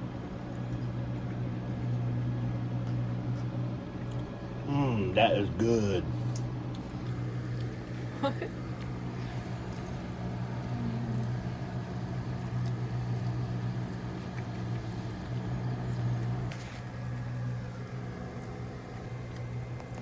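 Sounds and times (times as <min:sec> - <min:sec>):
motor humming: 0:00.6 - 0:20.0.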